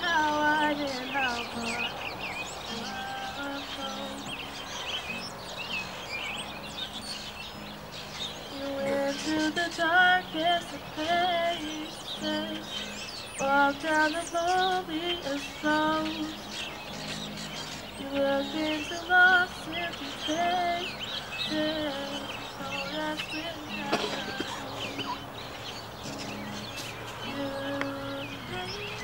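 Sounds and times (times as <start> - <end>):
woman singing slow song: 0.0 - 4.6, 8.4 - 25.4, 26.6 - 29.0
acoustic guitar strumming: 0.0 - 29.0
birds chirping: 0.0 - 29.0.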